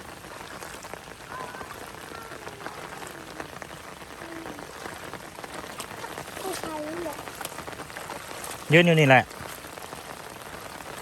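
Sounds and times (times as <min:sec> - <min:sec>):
rain falling: 0:00.0 - 0:11.0
raindrop hits: 0:00.0 - 0:11.0.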